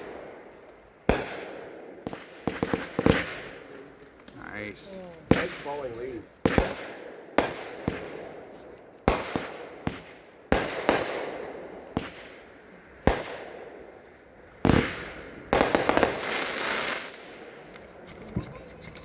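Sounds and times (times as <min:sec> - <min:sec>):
firework bangs: 0:00.0 - 0:17.7
firework crackling pops: 0:00.0 - 0:17.8.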